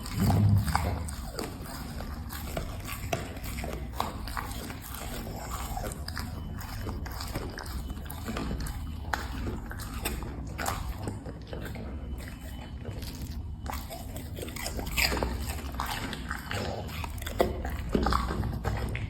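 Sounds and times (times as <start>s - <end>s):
dog chewing food: 0.0s - 19.0s.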